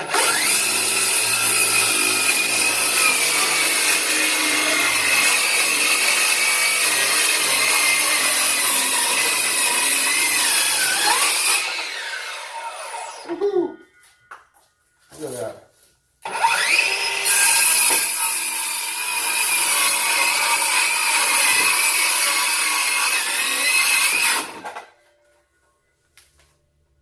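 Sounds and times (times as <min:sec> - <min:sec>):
circular saw cutting wood: 0:00.0 - 0:13.4, 0:16.2 - 0:24.9
saw blade winding down: 0:00.0 - 0:13.4, 0:16.3 - 0:24.8.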